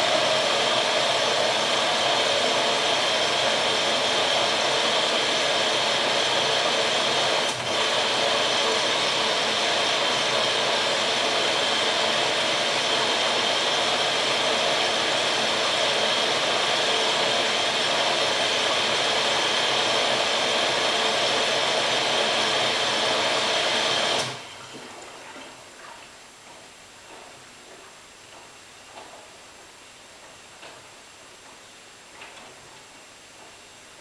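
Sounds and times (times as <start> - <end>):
washing machine filling with water: 0.0 - 34.0.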